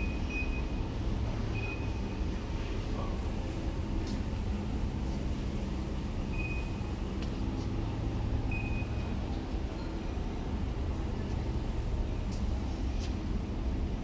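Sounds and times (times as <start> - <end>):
low store rumble: 0.0 - 14.0.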